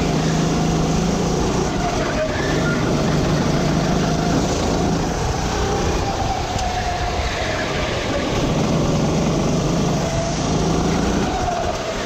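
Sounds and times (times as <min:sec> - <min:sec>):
kart engine running: 0:00.0 - 0:12.0.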